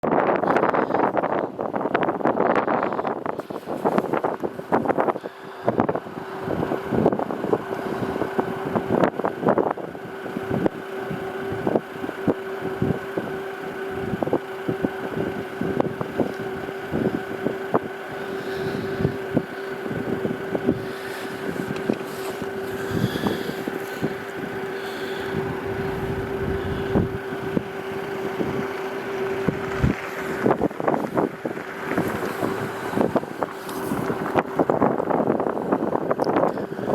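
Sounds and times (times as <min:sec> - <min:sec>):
steady mechanical hum: 0:00.0 - 0:36.9
wind buffeting microphone: 0:00.0 - 0:36.9.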